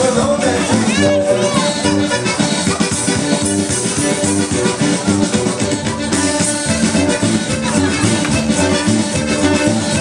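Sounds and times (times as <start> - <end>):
upbeat latin dance music: 0.0 - 10.0.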